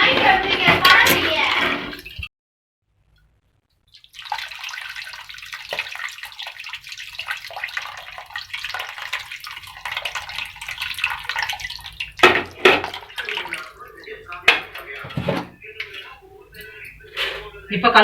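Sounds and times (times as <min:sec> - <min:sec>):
water splashing and trickling: 0:00.0 - 0:02.3, 0:03.2 - 0:17.6.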